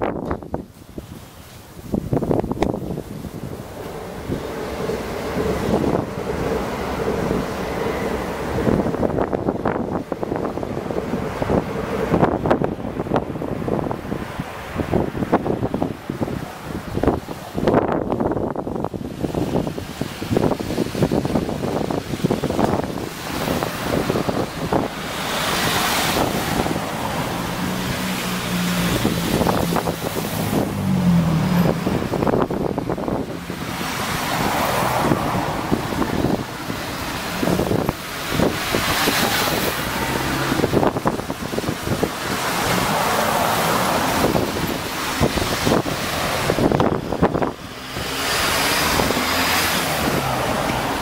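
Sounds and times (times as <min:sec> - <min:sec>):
cars driving past: 0:00.0 - 0:51.0
wind on microphone: 0:00.0 - 0:51.0.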